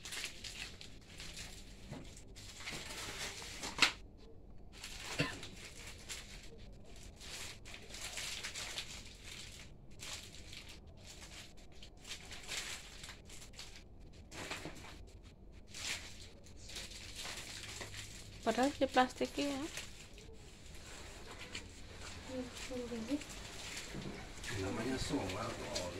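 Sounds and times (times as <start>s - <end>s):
plastic packaging crinkling: 0.0s - 4.0s, 4.7s - 25.9s.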